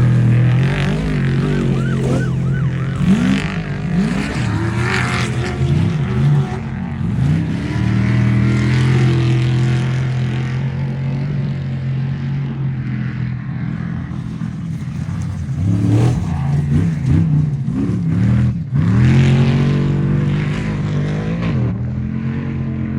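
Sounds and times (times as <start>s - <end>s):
truck engine revving: 0.0s - 11.3s, 13.8s - 22.6s.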